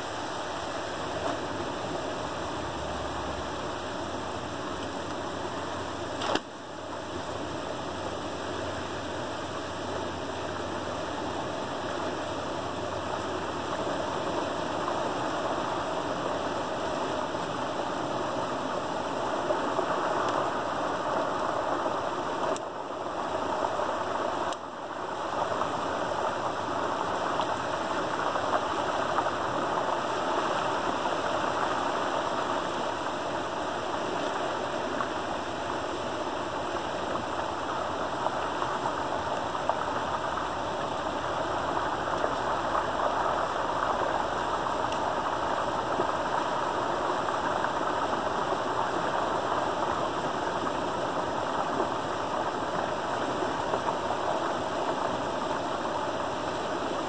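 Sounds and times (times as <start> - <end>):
water rushing over small waterfall: 0.0 - 57.0.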